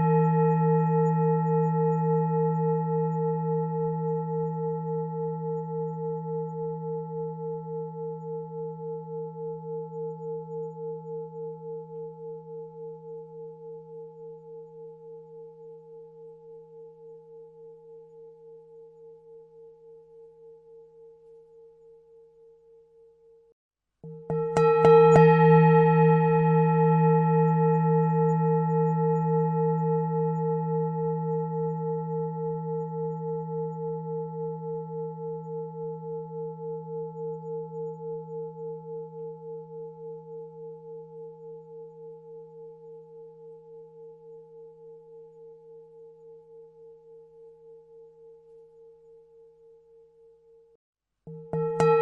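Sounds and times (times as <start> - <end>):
singing bowl ringing: 0.0 - 23.3, 24.1 - 52.0.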